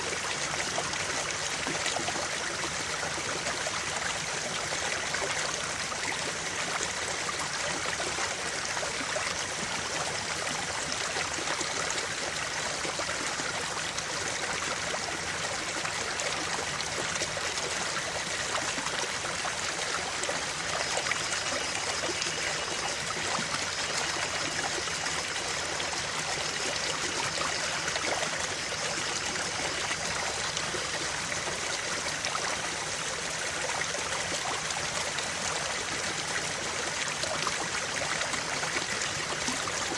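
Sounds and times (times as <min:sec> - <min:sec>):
creek flowing over stones: 0:00.0 - 0:39.9.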